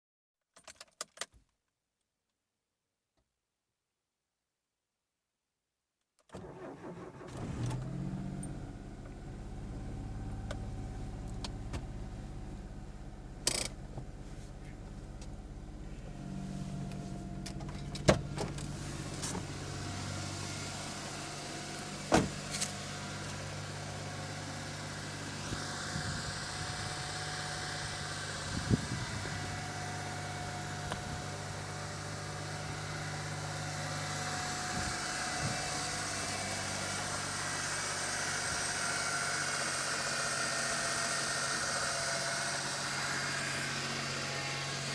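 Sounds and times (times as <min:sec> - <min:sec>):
car engine idling: 0:06.4 - 0:44.9.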